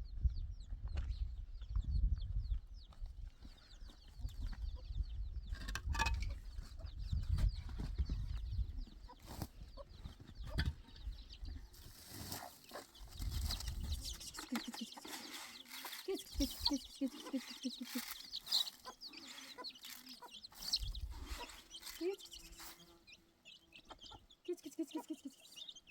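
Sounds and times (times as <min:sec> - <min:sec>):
chickens clucking: 0:03.4 - 0:25.9.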